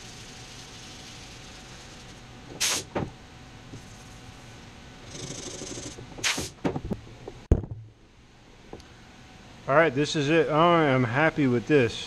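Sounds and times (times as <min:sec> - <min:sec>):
shop fan humming: 0:00.0 - 0:12.0.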